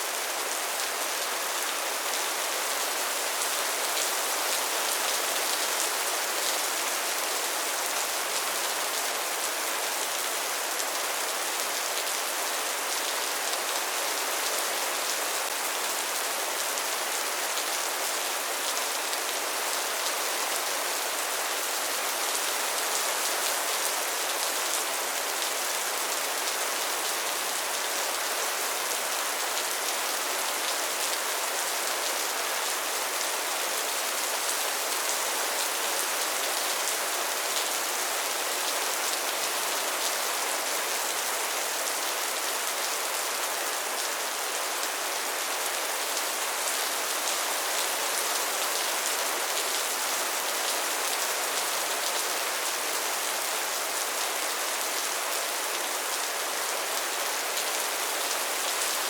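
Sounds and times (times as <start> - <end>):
rain falling steadily: 0.0 - 59.0.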